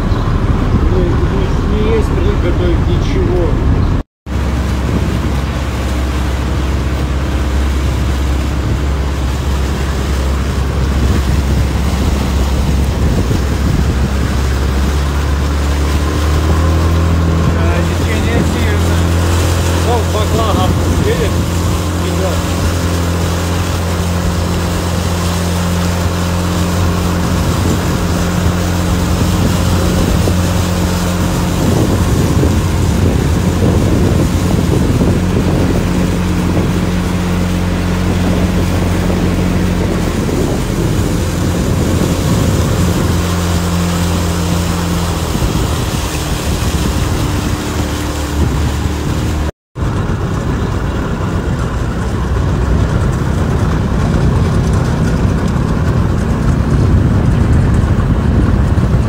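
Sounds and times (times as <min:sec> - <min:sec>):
motorboat engine running: 0:00.0 - 0:59.0
water rushing past: 0:00.0 - 0:59.0
wind on microphone: 0:00.0 - 0:59.0.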